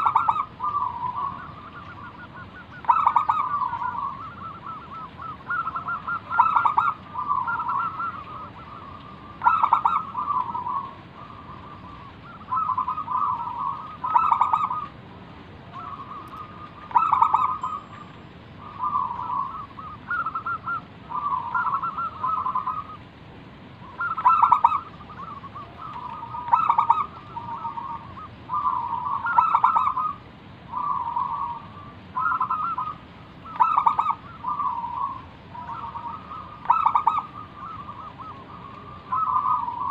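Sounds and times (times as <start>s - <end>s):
dove cooing: 0.0s - 15.0s, 15.7s - 18.0s, 18.6s - 23.0s, 23.8s - 39.9s.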